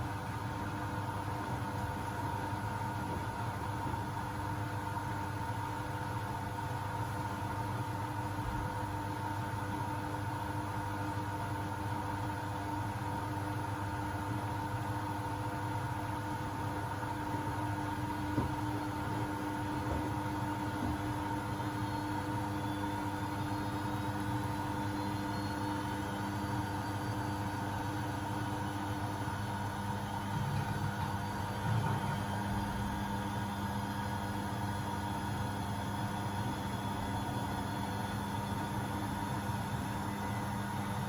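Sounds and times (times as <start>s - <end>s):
washing machine spinning: 0.0s - 41.0s.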